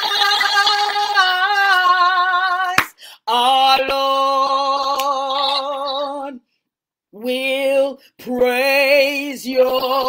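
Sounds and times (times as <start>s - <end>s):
woman singing unaccompanied: 0.0s - 6.4s, 7.2s - 10.0s.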